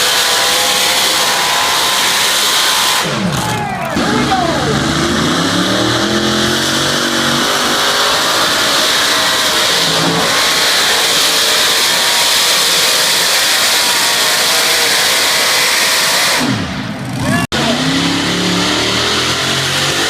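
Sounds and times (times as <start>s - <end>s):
diesel tractor engine at full throttle: 0.0s - 20.0s.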